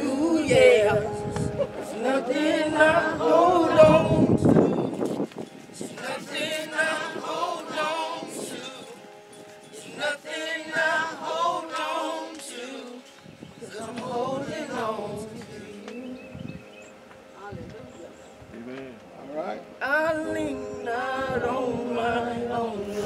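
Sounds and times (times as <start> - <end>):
slow gospel singing: 0.0 - 17.4, 19.7 - 23.0.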